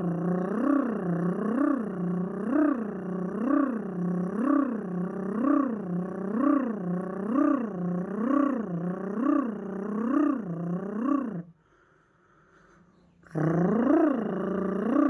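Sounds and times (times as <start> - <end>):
man imitating a motor hum: 0.0 - 11.6, 13.2 - 15.0.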